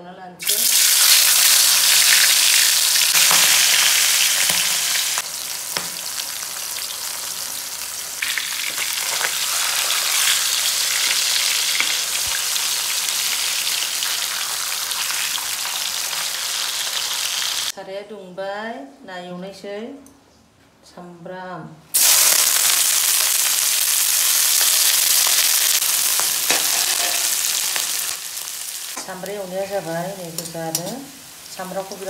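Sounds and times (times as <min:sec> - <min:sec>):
food sizzling in oil: 0:00.4 - 0:17.7, 0:22.0 - 0:32.0.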